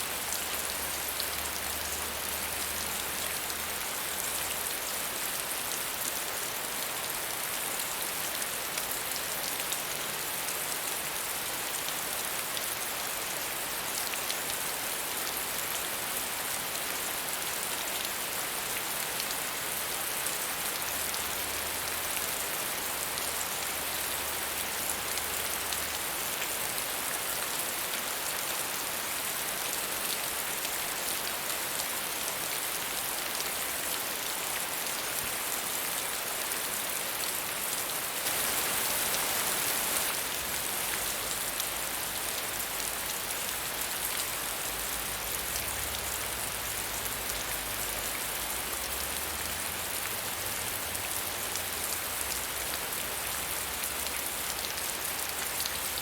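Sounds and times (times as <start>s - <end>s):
rain pattering: 0.1s - 17.0s, 18.0s - 56.0s.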